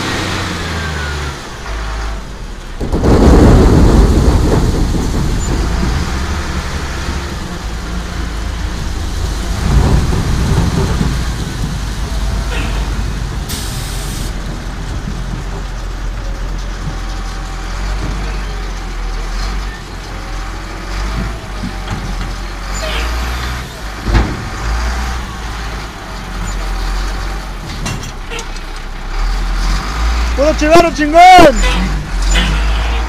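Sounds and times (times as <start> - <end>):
heavy engine rumbling: 0.0 - 33.0.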